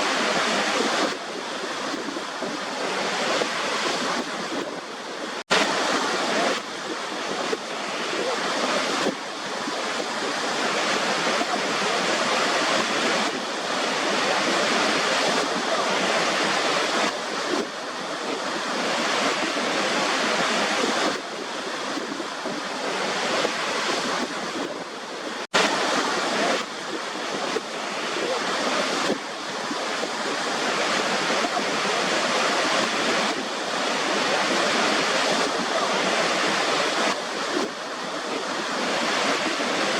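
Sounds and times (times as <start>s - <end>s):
rushing white noise: 0.0s - 39.9s.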